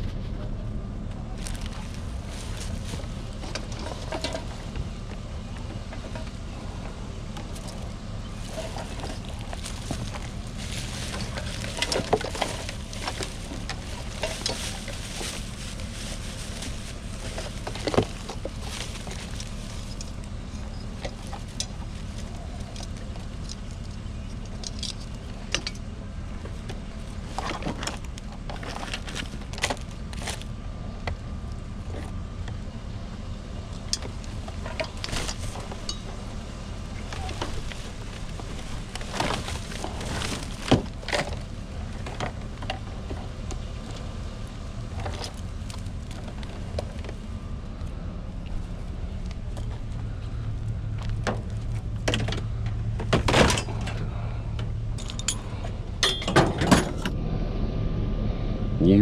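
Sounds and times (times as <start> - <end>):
low engine-like drone: 0.0 - 59.0.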